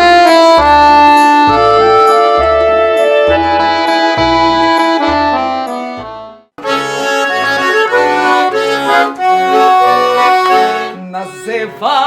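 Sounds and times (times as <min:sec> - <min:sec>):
button accordion folk melody: 0:00.0 - 0:12.0.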